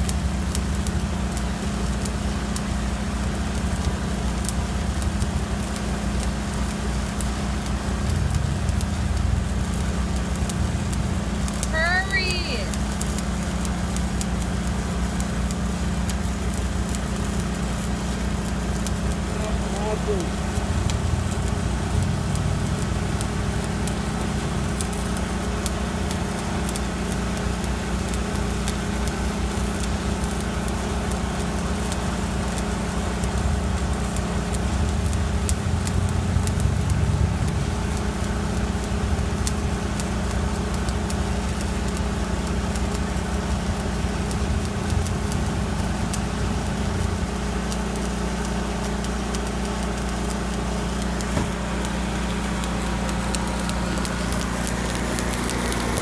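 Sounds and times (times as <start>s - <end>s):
light crackling clicks: 0.0s - 2.7s, 3.5s - 56.0s
engine humming steadily: 0.0s - 56.0s.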